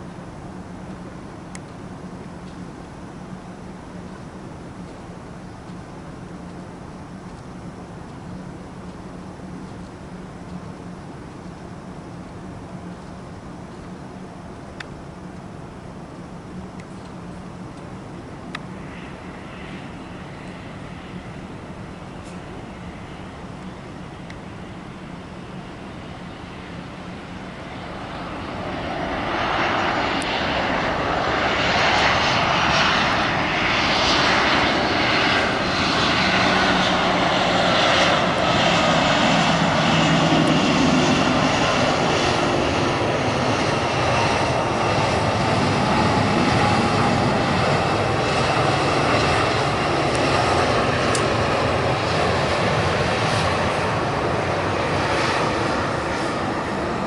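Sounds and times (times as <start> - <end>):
jet engine whine falling in pitch: 0.0 - 57.0
jet engines rushing: 0.0 - 57.0.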